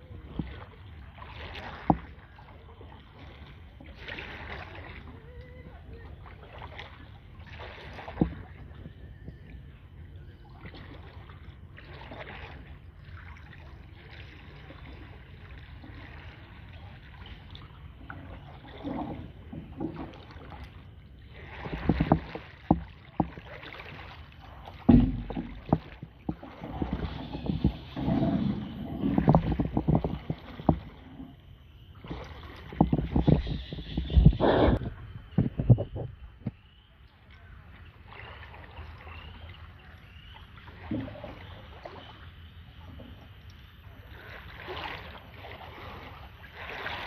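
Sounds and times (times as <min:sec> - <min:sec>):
paddle splashing in water: 0:00.0 - 0:47.0.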